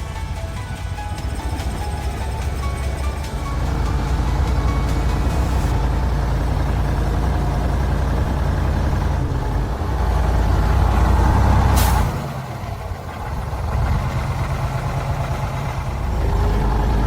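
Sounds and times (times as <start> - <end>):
truck engine labouring: 0.0 - 17.0.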